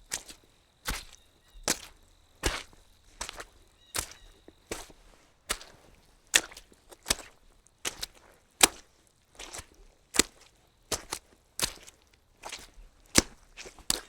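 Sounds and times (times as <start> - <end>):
slow footsteps: 0.0 - 14.0.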